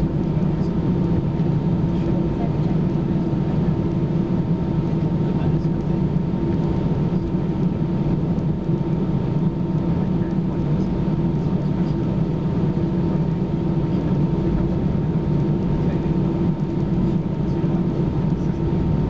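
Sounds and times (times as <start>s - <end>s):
jet engines humming in cabin: 0.0s - 19.0s.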